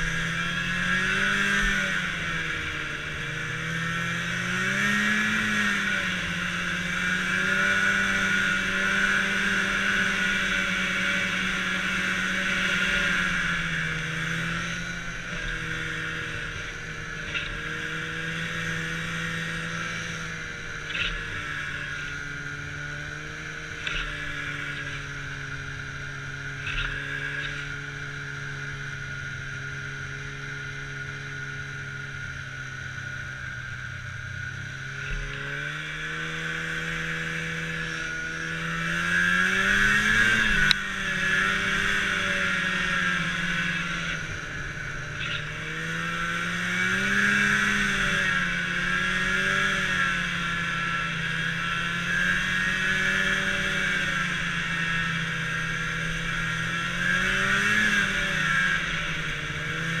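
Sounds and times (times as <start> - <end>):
snowmobile engine revving: 0.0 - 60.0.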